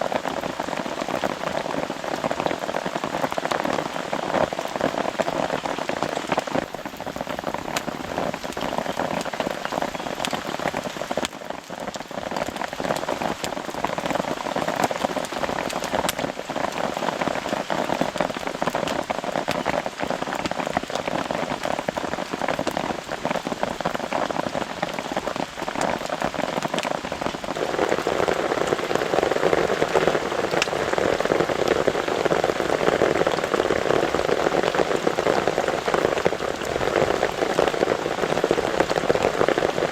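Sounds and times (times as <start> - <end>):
rain falling on a tarp: 0.0 - 39.9.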